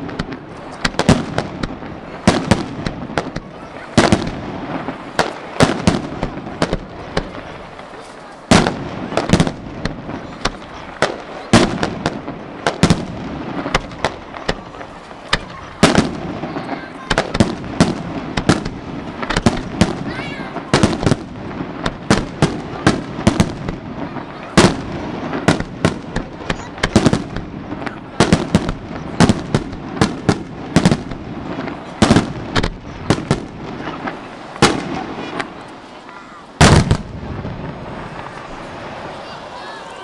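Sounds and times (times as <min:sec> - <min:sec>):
fireworks bursting: 0:00.0 - 0:40.0.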